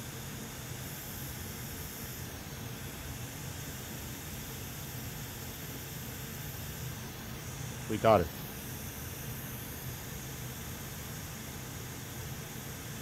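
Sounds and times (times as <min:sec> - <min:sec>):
hot air blower hissing: 0:00.0 - 0:00.2, 0:00.9 - 0:13.0.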